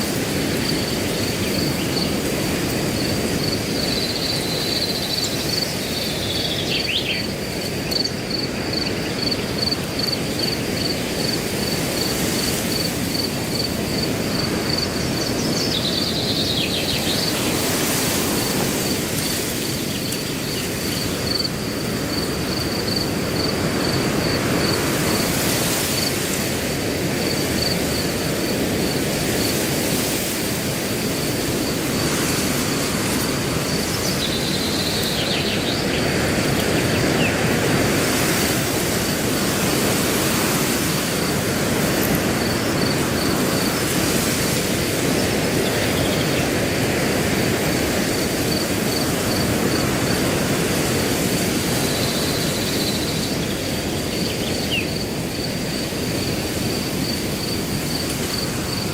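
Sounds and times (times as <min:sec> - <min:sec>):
cricket chirping: 0:00.0 - 0:58.9
wind rushing through grass: 0:00.0 - 0:58.9.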